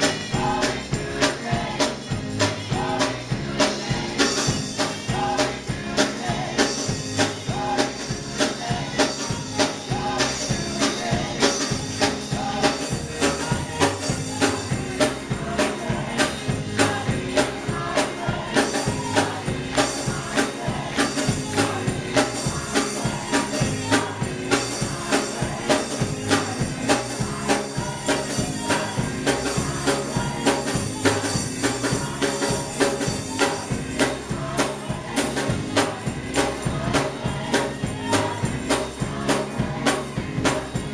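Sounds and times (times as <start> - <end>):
gospel singing over instruments: 0.0 - 40.9
steady percussive beat: 0.0 - 40.9.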